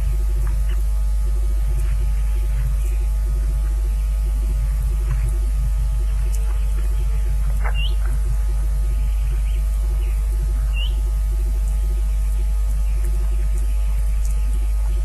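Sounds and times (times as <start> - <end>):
electrical hum with pulsing buzz: 0.0 - 15.0.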